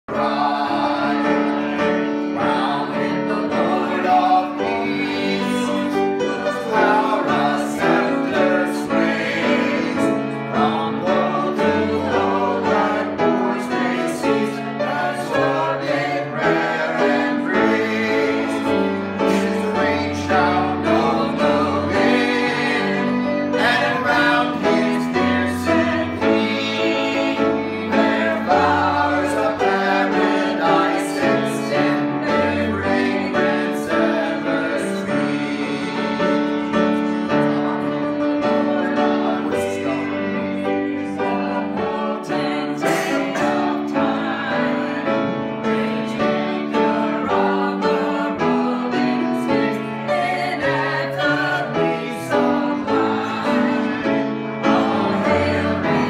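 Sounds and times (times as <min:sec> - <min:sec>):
group singing: 0:00.0 - 0:56.0
piano: 0:00.0 - 0:56.0.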